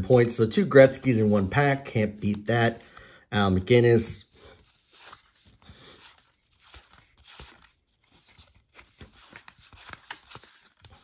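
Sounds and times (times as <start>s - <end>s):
trading cards being flipped: 0.0s - 11.0s.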